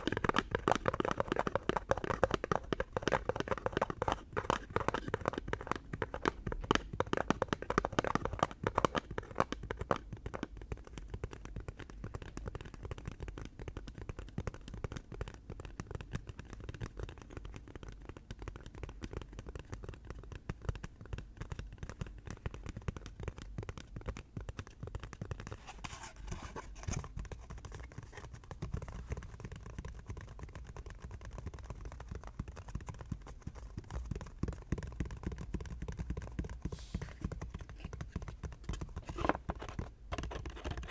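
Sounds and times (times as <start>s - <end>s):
rapid tapping on an object: 0.0s - 40.9s.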